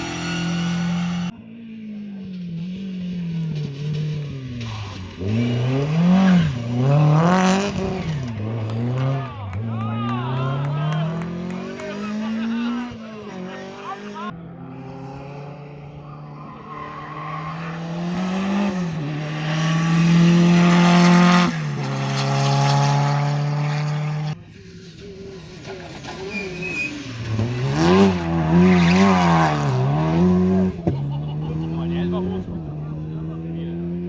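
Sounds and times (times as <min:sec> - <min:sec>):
rally car engine revving: 0:00.0 - 0:01.4, 0:02.1 - 0:34.0.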